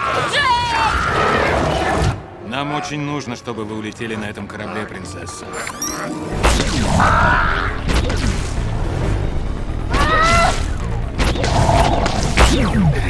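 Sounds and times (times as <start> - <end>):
dramatic orchestral score: 0.0 - 13.0.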